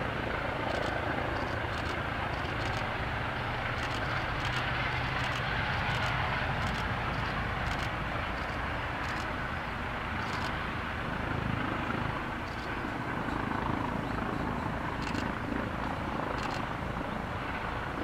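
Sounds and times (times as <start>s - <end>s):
helicopter hovering: 0.0s - 18.0s.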